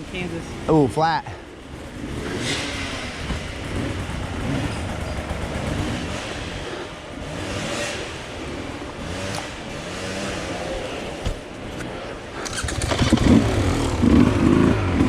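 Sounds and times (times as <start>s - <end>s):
steady rushing noise: 0.0s - 15.0s
dirt bike engine revving: 1.6s - 15.0s.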